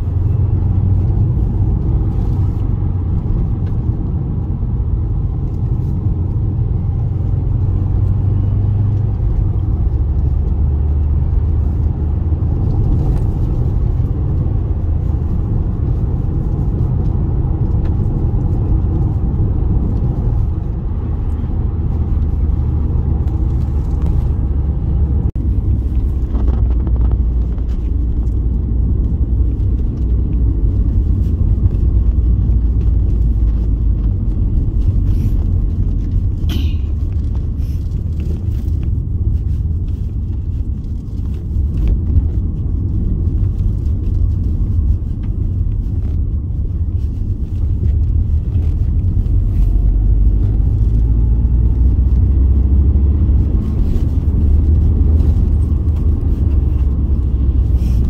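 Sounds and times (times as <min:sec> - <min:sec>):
car driving rumble: 0:00.0 - 0:58.0.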